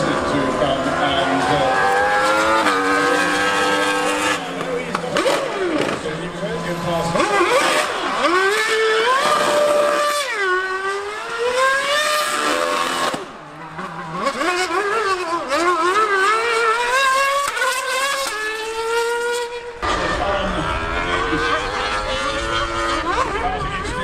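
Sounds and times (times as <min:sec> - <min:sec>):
racing engine accelerating: 0:00.0 - 0:24.0.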